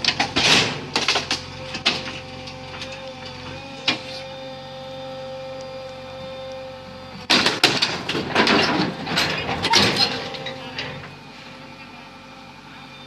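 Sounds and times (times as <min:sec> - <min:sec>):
motor whining: 0:01.3 - 0:13.0.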